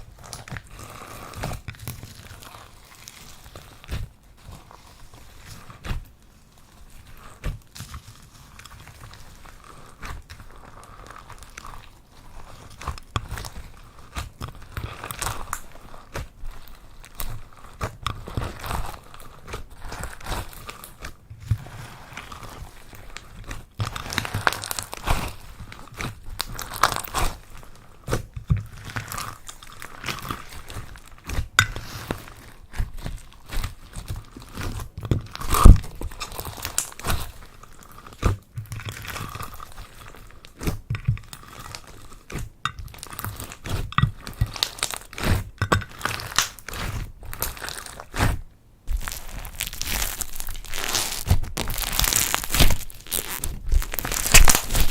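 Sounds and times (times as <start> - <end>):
slime crackling and popping: 0.0 - 54.9.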